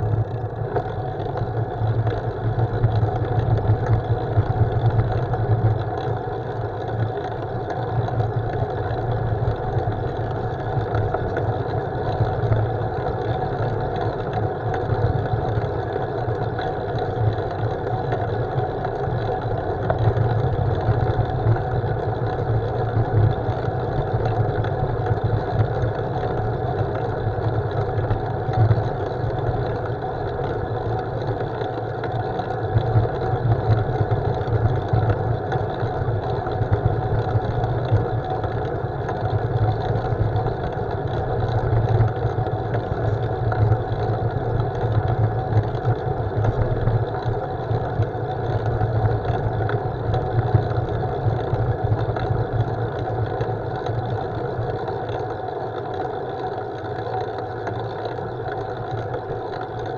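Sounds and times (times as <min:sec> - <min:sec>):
bicycle road rumble: 0:00.0 - 0:59.9.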